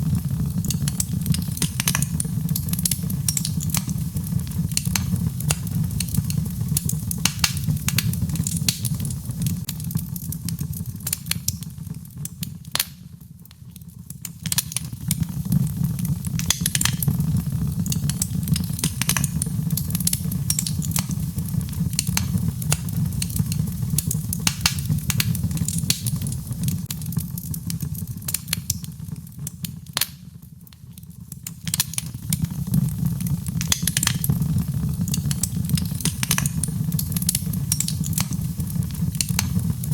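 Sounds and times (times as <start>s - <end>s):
burning logs crackling and popping: 0.0s - 39.9s
low rumble of flames: 0.0s - 39.9s.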